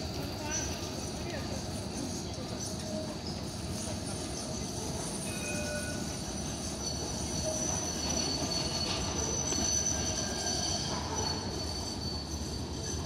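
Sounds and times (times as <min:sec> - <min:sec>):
tram wheels squealing: 0:00.0 - 0:13.0.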